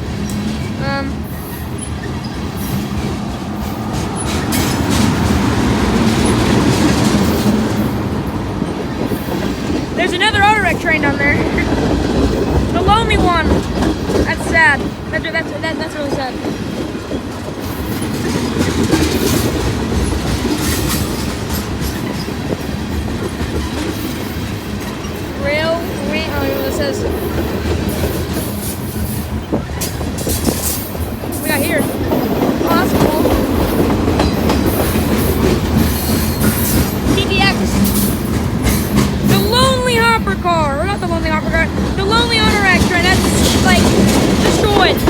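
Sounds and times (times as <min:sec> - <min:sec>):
train wheels rumbling on rails: 0:00.0 - 0:45.0
wheels clacking over rail joints: 0:00.0 - 0:45.0.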